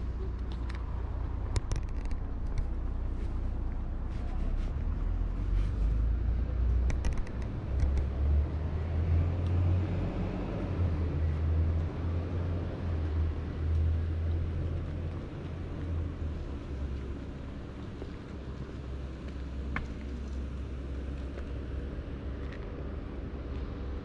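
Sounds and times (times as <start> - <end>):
low street rumble: 0.0 - 24.0.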